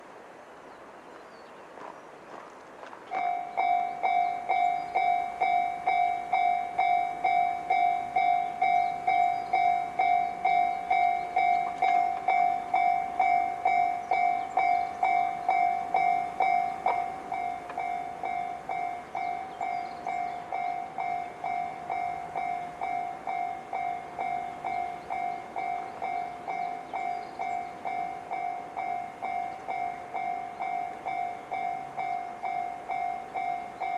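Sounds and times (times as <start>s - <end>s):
level crossing warning bell: 3.1s - 33.9s.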